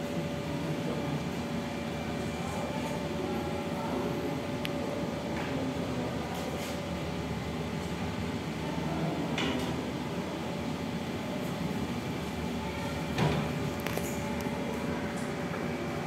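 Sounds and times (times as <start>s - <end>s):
room hum: 0.0s - 16.0s.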